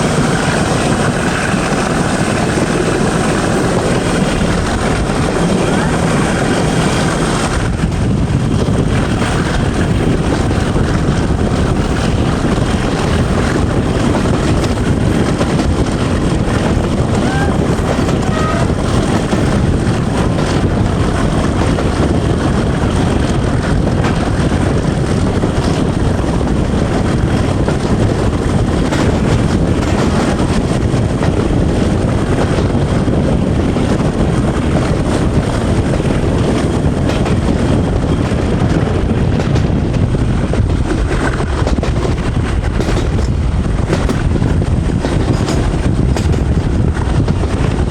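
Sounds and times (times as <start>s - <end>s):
diesel locomotive engine running: 0.0s - 47.9s
train rumble: 0.0s - 47.9s.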